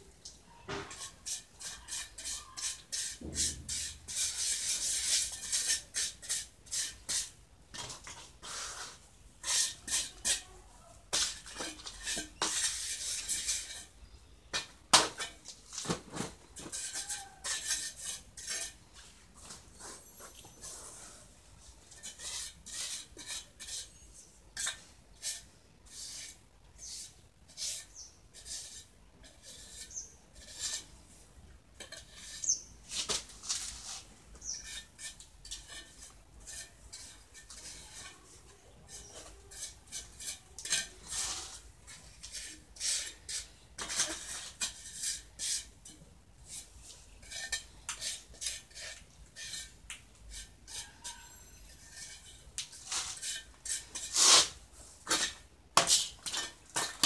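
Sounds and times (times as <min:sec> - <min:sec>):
trowel scraping wet cement: 0:00.9 - 0:10.4, 0:11.1 - 0:14.0, 0:14.6 - 0:21.2, 0:21.9 - 0:31.0, 0:31.8 - 0:38.2, 0:38.9 - 0:57.0.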